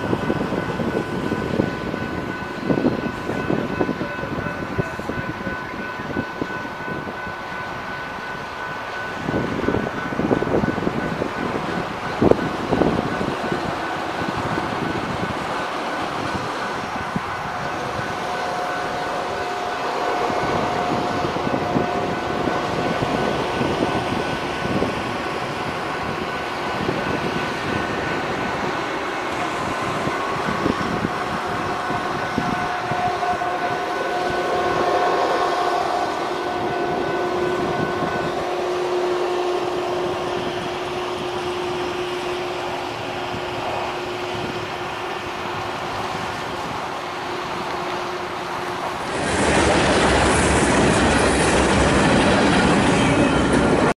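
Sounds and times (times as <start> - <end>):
crossing signal bell ringing: 0.0 - 53.9
rail vehicles rolling on track: 0.0 - 53.9
road traffic: 0.0 - 53.9
wind noise: 0.0 - 53.9.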